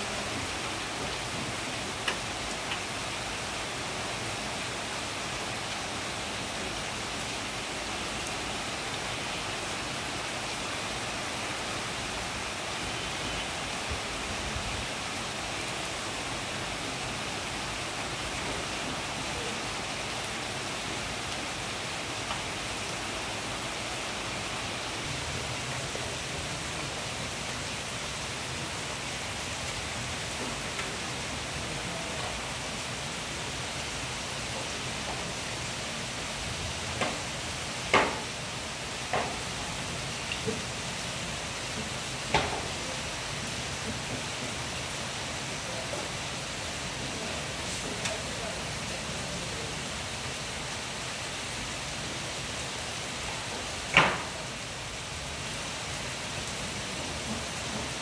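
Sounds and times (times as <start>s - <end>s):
rain falling on foliage: 0.0s - 58.0s.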